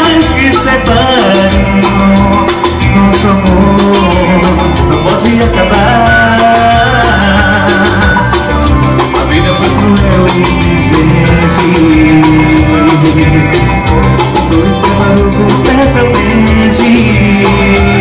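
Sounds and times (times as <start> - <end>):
drum kit steady beat: 0.0 - 18.0
live band music: 0.0 - 18.0.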